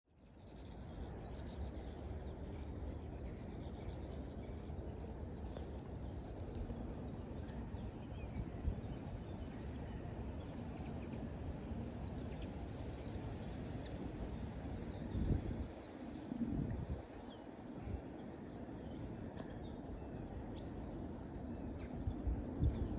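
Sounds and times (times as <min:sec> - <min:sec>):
steady low rumble: 0:00.2 - 0:22.9.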